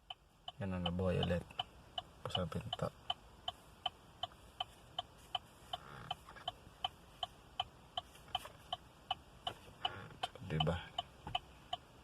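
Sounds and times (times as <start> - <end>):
car warning chime ticking: 0.0 - 12.0.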